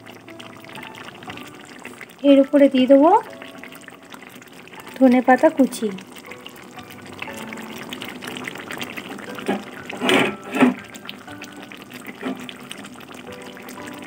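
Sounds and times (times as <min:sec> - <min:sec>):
curry bubbling and crackling: 0:00.0 - 0:14.0.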